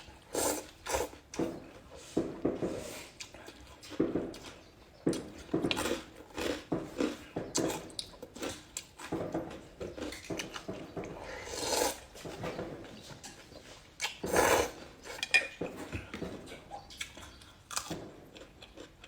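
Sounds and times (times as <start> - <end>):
chewing crunchy food: 0.0 - 19.0.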